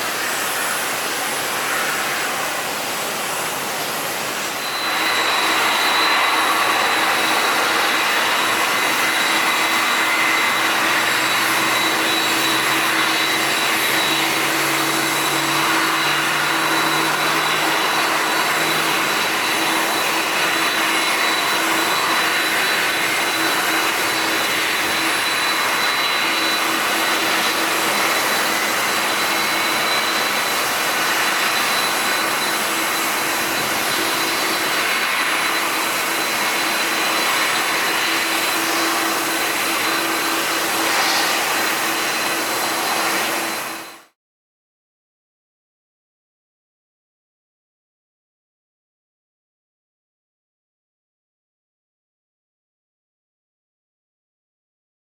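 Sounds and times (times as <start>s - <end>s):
jet engines whining: 0.0s - 44.1s.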